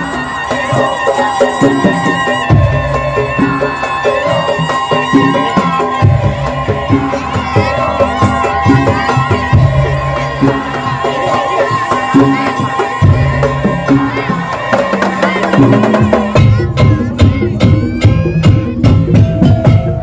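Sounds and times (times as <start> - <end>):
wavering melody line: 0.0 - 20.0
wooden slit drums and drums: 0.0 - 20.0.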